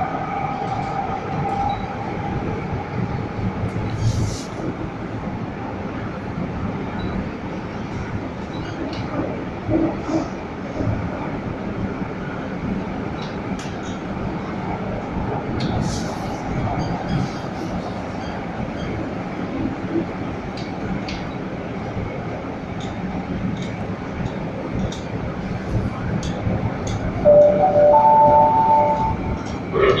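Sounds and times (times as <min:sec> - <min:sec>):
train carriage rumble: 0:00.0 - 0:30.0.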